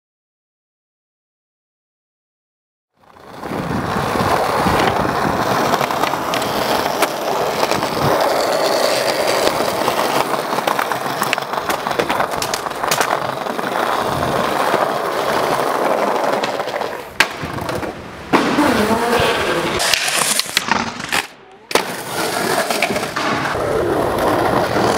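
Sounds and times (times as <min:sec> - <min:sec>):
skateboard clacking: 0:03.0 - 0:24.9
skateboard wheels rolling on pavement: 0:03.0 - 0:24.9.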